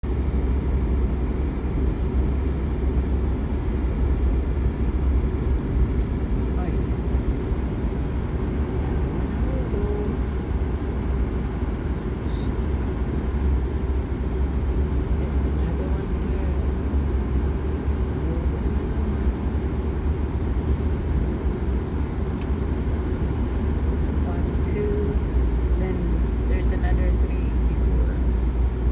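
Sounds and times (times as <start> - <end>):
car driving on road: 0.0 - 28.9
vehicle engine and tyre rumble: 0.0 - 28.9.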